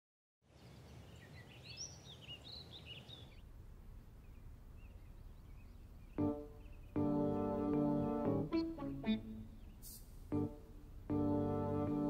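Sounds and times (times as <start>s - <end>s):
small birds chirping: 0.5s - 10.2s.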